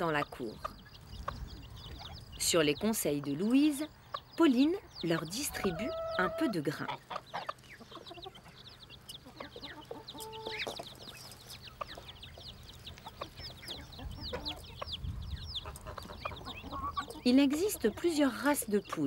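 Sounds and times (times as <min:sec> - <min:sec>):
chicks peeping: 0:00.0 - 0:19.0
hen clucking: 0:00.0 - 0:19.0.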